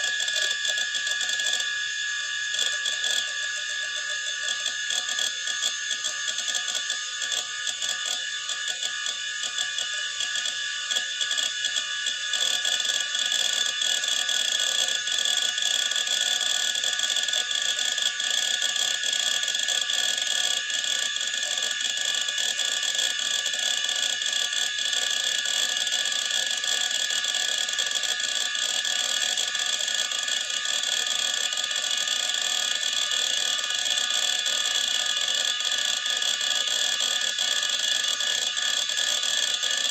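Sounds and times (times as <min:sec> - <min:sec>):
hard disk whine: 0:00.0 - 0:39.9.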